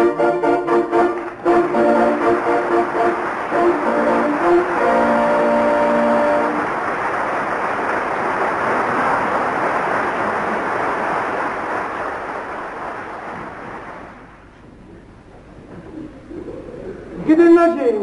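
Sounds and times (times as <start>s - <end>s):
audience applause: 0.0s - 14.5s.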